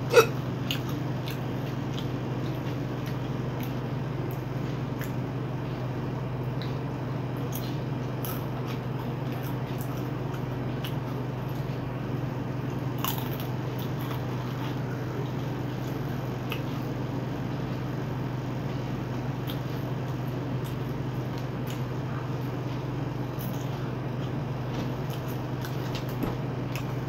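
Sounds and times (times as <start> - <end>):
chewing crisp fried snack: 0.0 - 27.0
steady low hum: 0.0 - 27.0.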